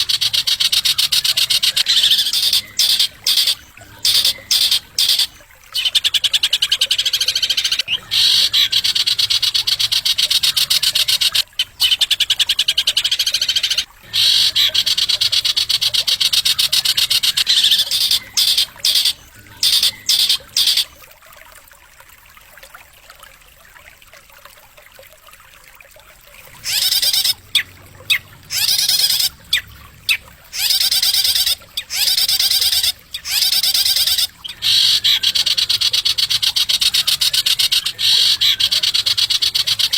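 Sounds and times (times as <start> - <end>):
songbird trilling: 0.0 - 21.0, 26.5 - 39.9.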